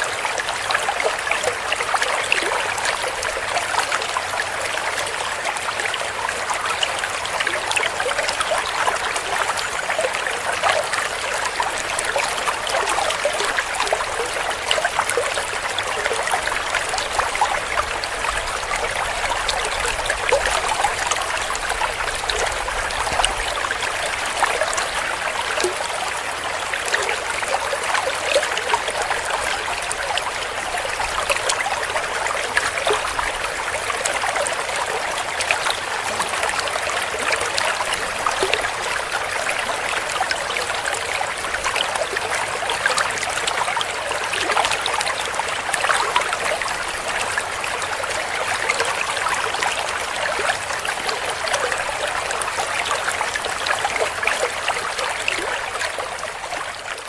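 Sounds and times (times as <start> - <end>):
stream gurgling over stones: 0.0 - 57.0.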